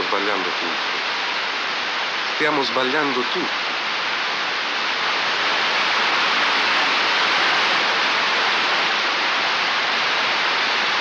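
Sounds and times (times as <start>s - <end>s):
fountain water cascading: 0.0s - 11.0s.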